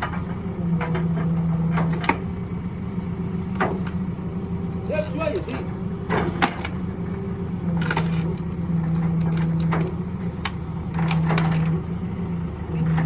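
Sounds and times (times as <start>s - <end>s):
metal clanks and knocks: 0.0s - 12.0s
engine running: 0.0s - 13.0s.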